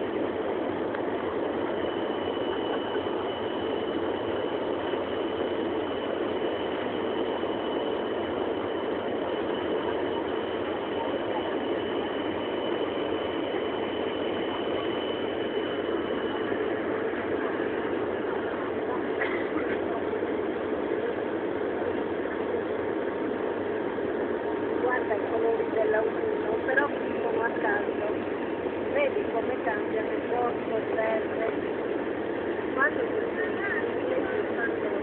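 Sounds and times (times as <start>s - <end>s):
jet engine roar in cabin: 0.0s - 35.0s
thin high whine: 0.0s - 35.0s.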